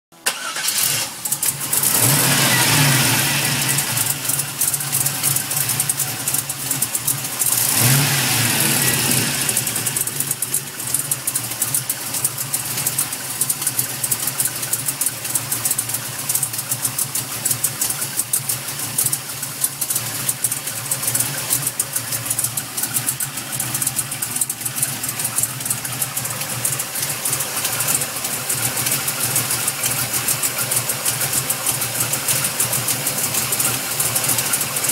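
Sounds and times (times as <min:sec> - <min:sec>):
engine running with ticking: 0:00.2 - 0:34.9.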